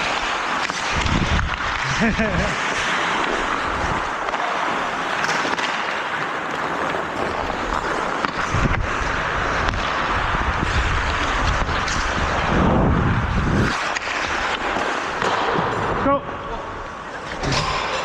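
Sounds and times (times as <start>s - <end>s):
hockey sticks and puck knocks: 0.0s - 12.6s, 13.6s - 16.0s, 17.2s - 18.0s
skates scraping on ice: 0.0s - 18.0s.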